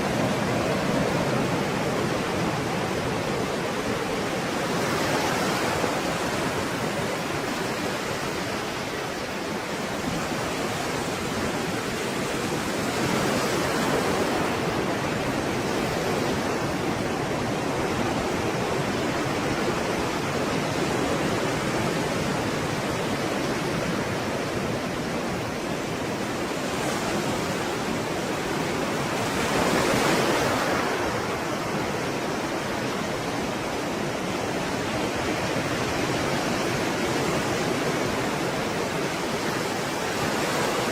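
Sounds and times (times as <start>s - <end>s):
stormy sea waves breaking: 0.0s - 40.9s.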